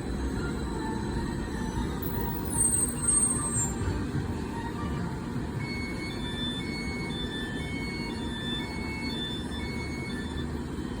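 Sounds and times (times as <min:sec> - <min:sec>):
tram low rumble: 0:00.0 - 0:11.0.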